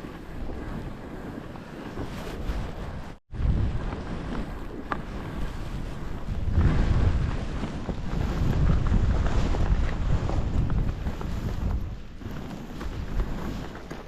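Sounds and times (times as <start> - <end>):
skis rushing over snow: 0.0 - 14.0
wind buffeting microphone: 0.0 - 14.0.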